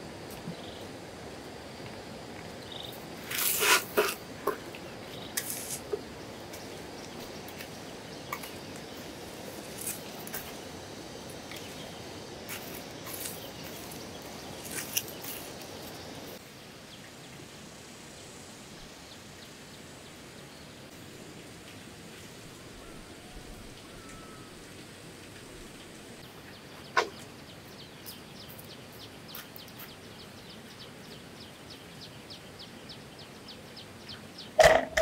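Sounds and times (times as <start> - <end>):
steady outdoor hiss: 0.0 - 35.0.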